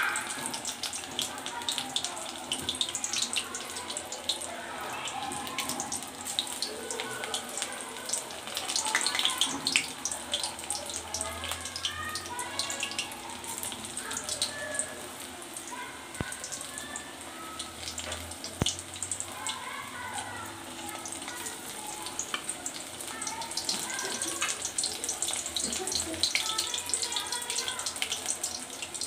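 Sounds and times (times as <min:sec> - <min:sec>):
oil sizzling and crackling: 0:00.0 - 0:29.0.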